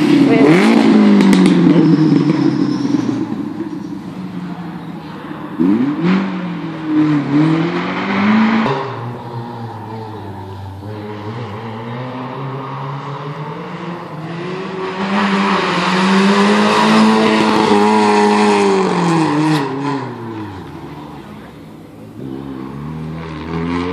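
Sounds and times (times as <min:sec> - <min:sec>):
rally car engine passing: 0:00.0 - 0:23.9.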